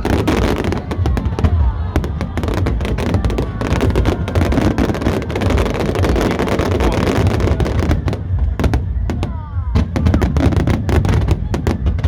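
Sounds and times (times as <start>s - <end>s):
fireworks cracks and bangs: 0.0s - 12.0s
low rumble: 0.0s - 12.0s.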